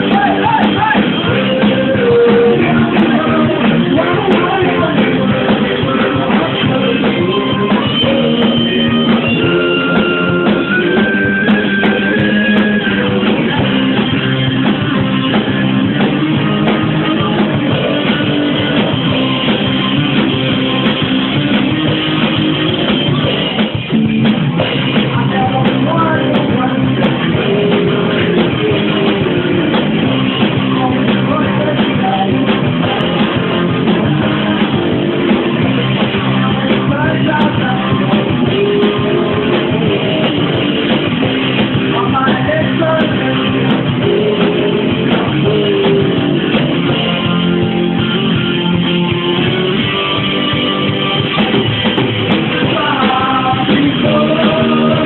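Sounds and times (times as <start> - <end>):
person singing: 0.0 - 20.7, 24.6 - 48.0, 52.4 - 55.0
drum kit: 0.0 - 55.0
electric guitars: 0.0 - 55.0.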